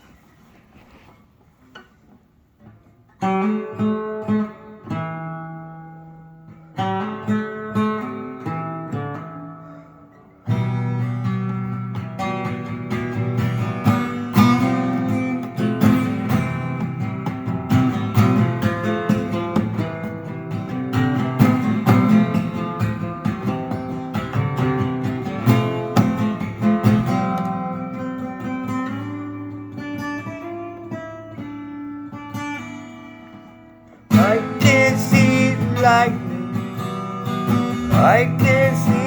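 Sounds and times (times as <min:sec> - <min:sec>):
acoustic guitar playing: 0:01.6 - 0:39.0.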